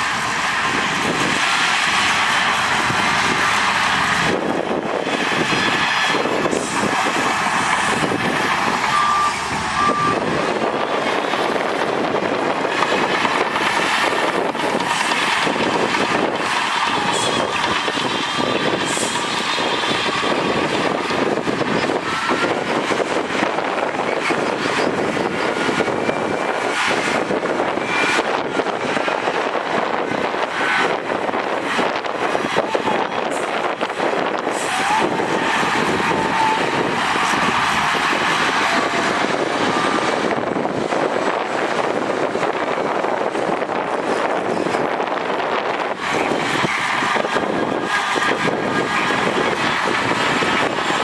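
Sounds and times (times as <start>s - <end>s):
diesel machinery engine din: 0.0s - 51.0s.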